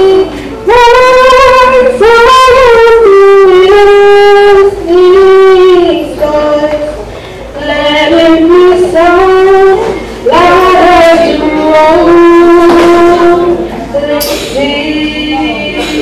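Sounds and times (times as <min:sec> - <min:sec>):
woman singing slow song: 0:00.0 - 0:16.0.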